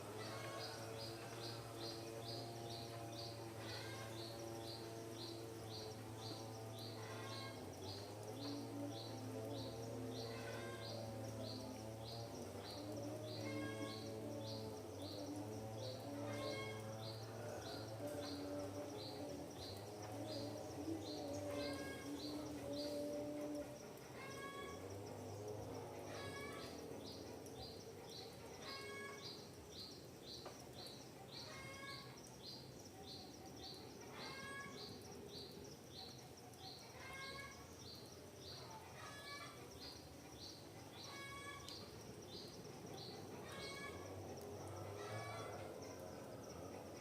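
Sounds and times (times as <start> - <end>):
faint steady background noise: 0.0 - 47.0.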